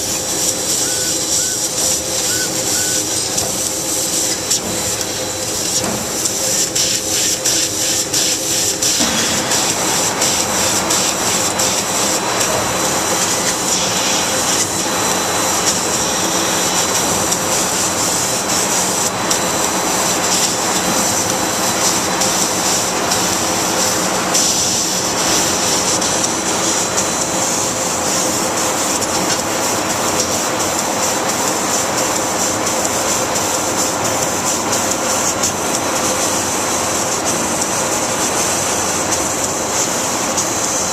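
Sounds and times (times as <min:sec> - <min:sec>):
laser cutting machine hissing: 0:00.0 - 0:40.9
machine hum: 0:00.0 - 0:40.9.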